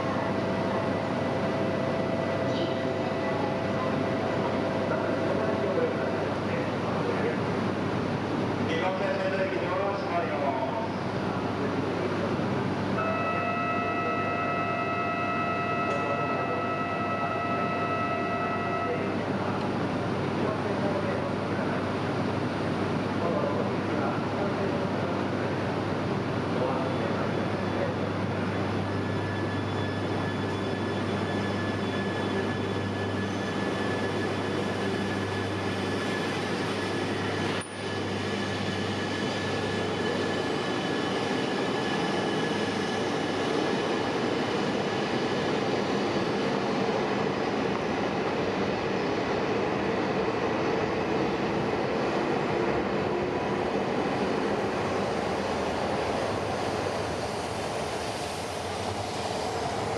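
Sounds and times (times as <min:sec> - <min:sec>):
train rolling rumble: 0:00.0 - 0:13.2, 0:14.0 - 0:59.9.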